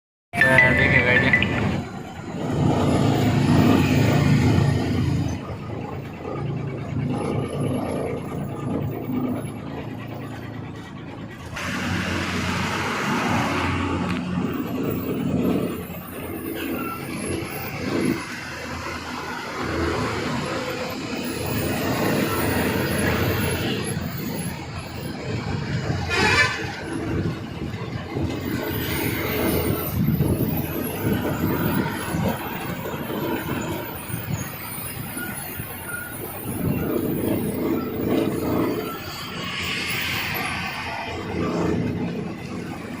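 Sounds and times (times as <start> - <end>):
diesel truck engines labouring: 0.4 - 43.0.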